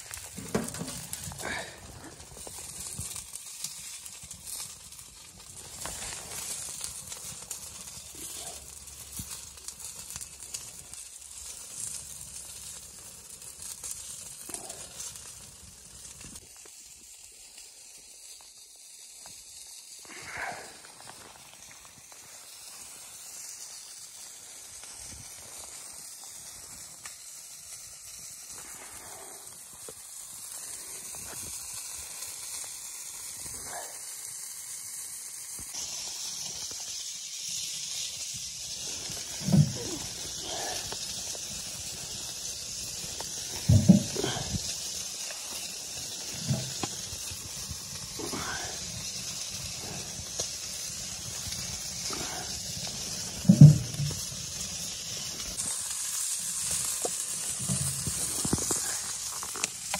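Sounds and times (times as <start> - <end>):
food sizzling on a grill: 0.0 - 59.9.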